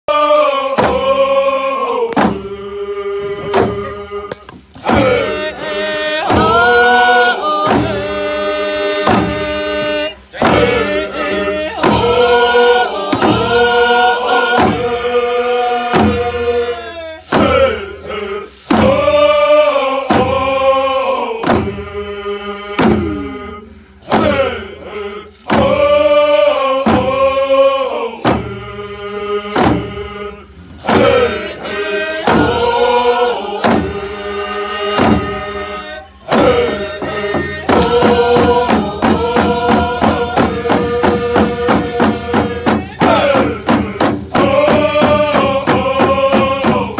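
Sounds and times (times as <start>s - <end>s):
men singing together: 0.1s - 46.9s
frame drums beating: 0.8s - 1.4s, 2.1s - 22.1s, 22.7s - 46.9s.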